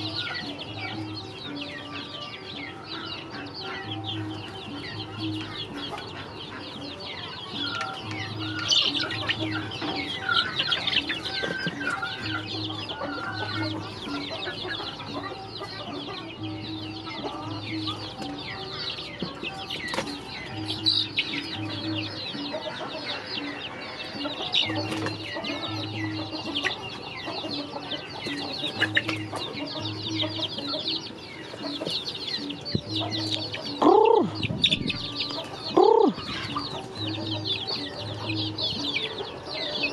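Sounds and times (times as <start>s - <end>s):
chicks chirping and clucking: 0.0s - 39.9s
loud drawn-out bird calls: 0.0s - 39.9s.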